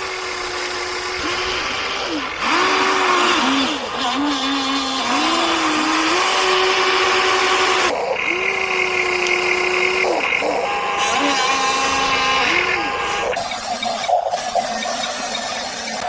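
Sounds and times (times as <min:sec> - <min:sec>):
electric motors whining: 0:00.0 - 0:16.0
higher motor whine: 0:00.0 - 0:16.0.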